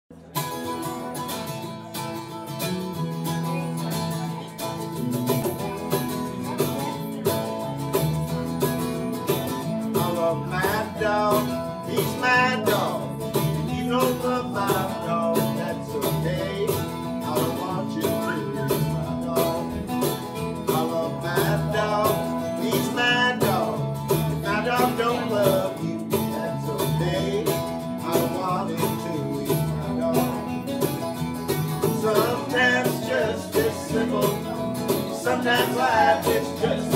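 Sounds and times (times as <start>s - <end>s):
guitars strumming: 0.1s - 36.9s
lead guitar bending lines: 0.2s - 36.9s.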